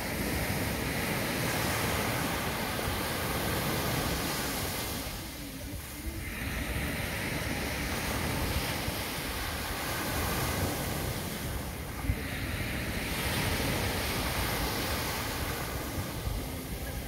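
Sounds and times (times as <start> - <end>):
waves washing onto sandy beach: 0.0 - 17.0
wind rumbling on microphone: 0.0 - 17.0.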